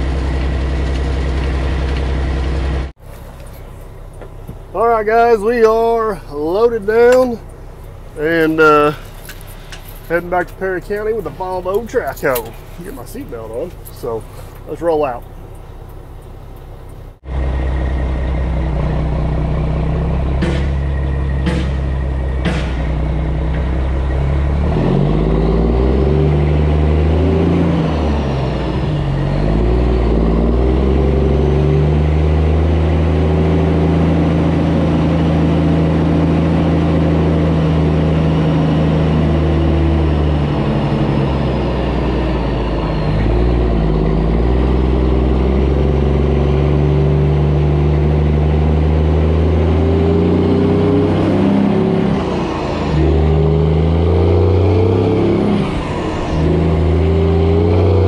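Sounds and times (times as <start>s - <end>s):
truck diesel engine pulling away: 0.0s - 58.0s.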